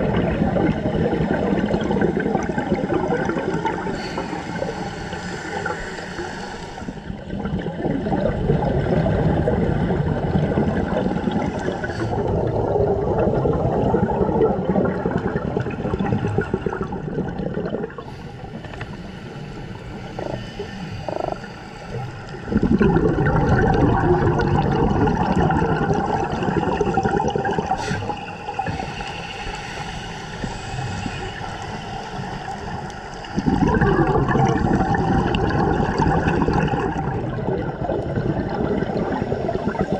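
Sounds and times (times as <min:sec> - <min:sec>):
muffled water noise: 0:00.0 - 0:39.9
underwater bubbles gurgling: 0:00.0 - 0:39.9.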